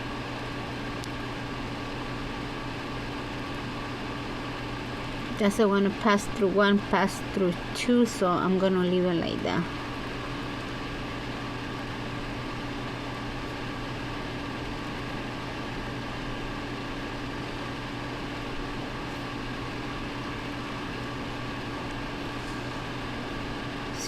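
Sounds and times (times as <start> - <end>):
clothes dryer running: 0.0 - 24.0.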